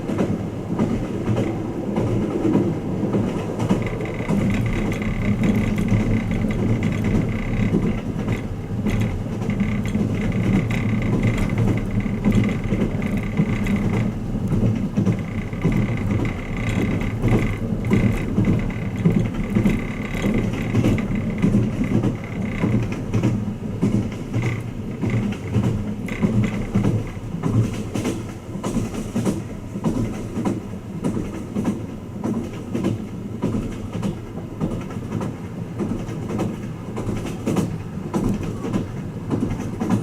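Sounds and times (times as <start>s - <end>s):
train running low rumble: 0.0s - 40.0s
faint irregular clicks: 3.2s - 40.0s.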